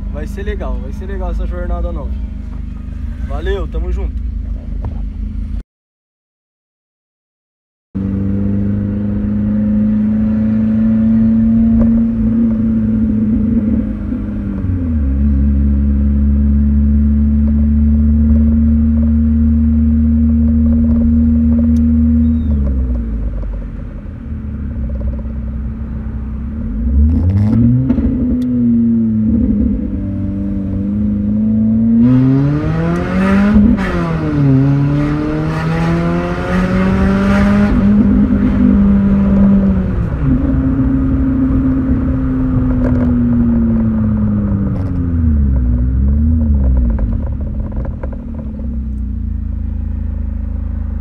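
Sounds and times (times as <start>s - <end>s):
car engine revving: 8.0s - 51.0s.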